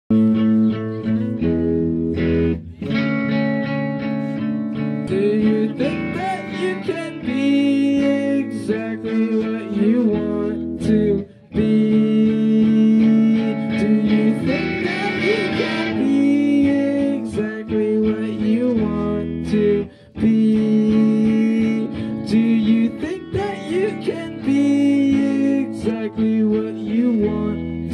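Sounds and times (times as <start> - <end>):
amplified guitar chords: 0.1 - 27.9.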